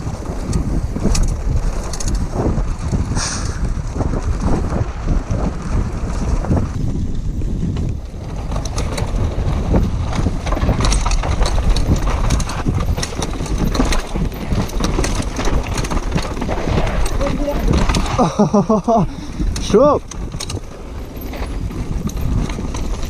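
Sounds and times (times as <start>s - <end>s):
bike clattering over stones: 0.0s - 23.0s
tyres rolling on dirt: 0.0s - 23.0s
wind on microphone: 0.0s - 23.0s.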